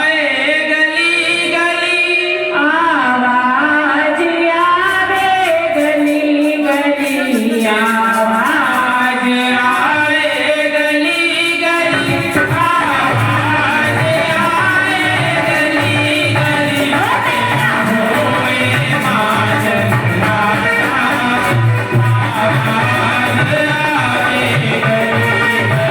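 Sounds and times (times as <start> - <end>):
devotional singing with melody: 0.0 - 25.9
light percussion beat: 4.9 - 25.9.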